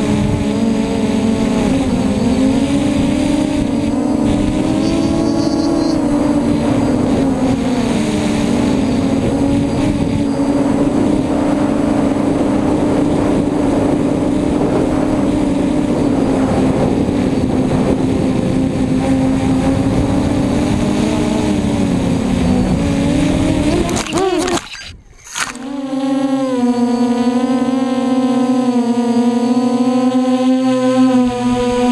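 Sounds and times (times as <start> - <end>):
wind noise: 0.0 - 25.8
drone motors whining: 0.0 - 31.9.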